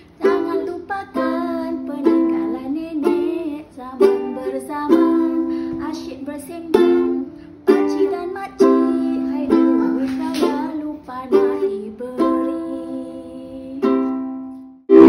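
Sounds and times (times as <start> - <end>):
plucked string chords: 0.0 - 15.0.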